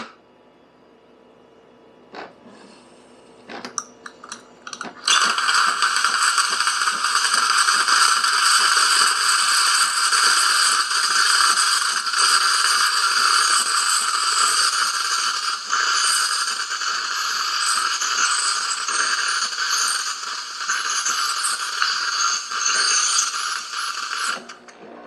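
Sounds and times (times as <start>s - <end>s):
steam hissing: 4.7s - 24.8s.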